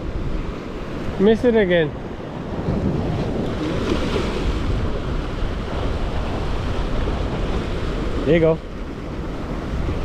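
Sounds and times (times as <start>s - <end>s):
surf washing against jetty: 0.0s - 10.0s
wind buffeting microphone: 0.0s - 10.0s.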